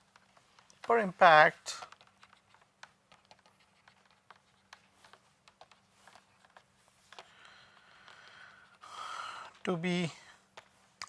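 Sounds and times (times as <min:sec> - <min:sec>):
faint steady hum: 0:00.0 - 0:11.0
typing on computer keyboard: 0:00.0 - 0:11.0.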